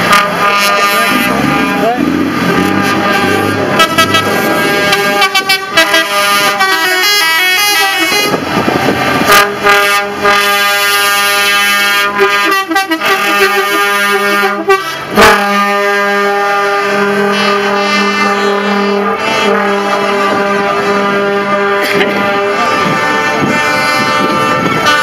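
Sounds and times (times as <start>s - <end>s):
truck air horns: 0.0s - 25.0s.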